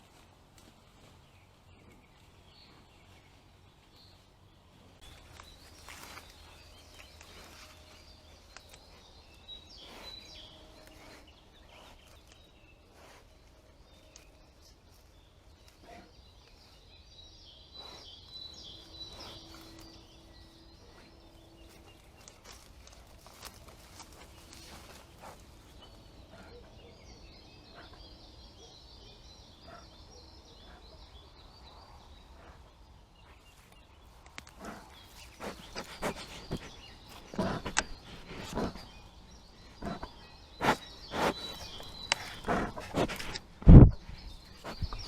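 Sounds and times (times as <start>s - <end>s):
rustles: 0.0s - 17.0s, 17.8s - 26.6s, 31.7s - 45.0s
birds chirping: 0.0s - 45.0s.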